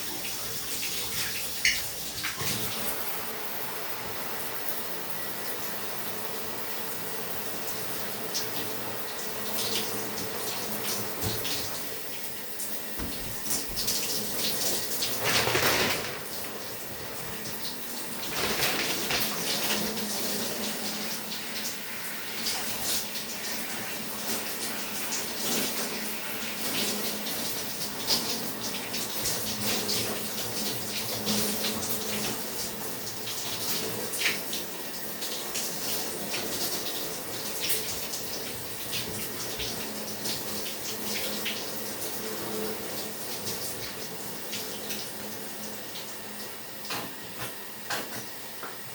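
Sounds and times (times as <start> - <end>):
shower water spraying: 0.0 - 48.9.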